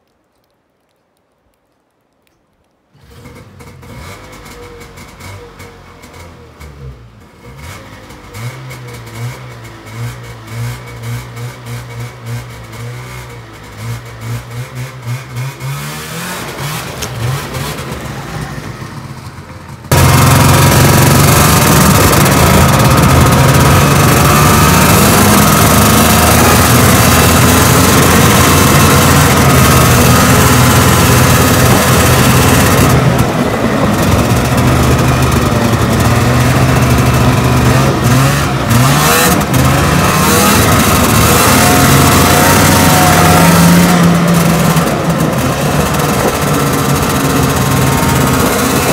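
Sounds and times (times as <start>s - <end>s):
snowmobile engine idling and revving: 3.0s - 48.9s.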